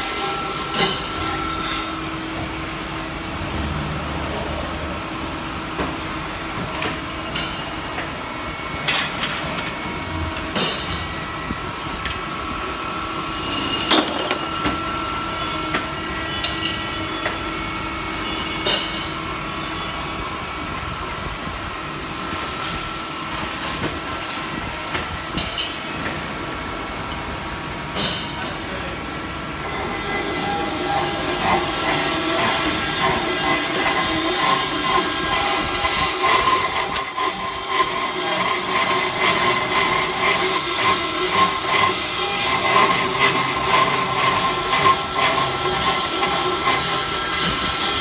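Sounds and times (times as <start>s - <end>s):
pipe cutting machine whining: 0.0s - 21.3s, 29.6s - 48.0s.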